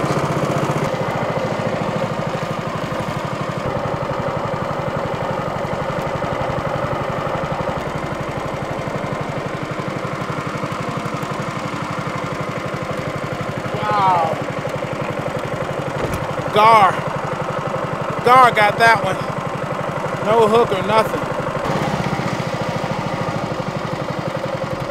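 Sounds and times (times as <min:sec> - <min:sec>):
small boat engine running: 0:00.0 - 0:24.9.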